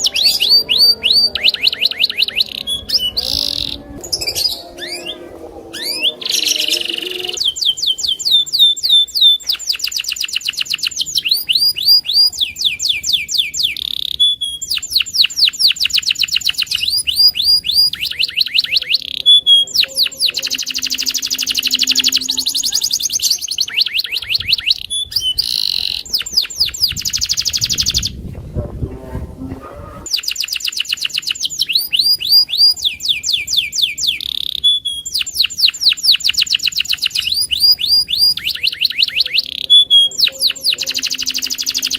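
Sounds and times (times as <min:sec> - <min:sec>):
canary singing rapid trills: 0:00.0 - 0:28.2, 0:29.9 - 0:41.9.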